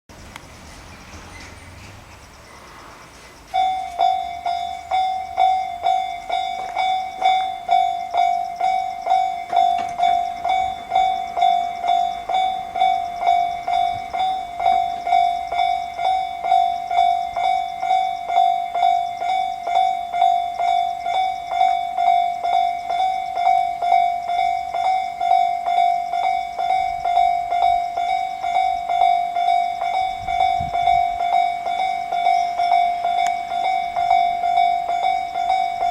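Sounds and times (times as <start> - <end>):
level crossing warning bell ringing: 3.1 - 35.9.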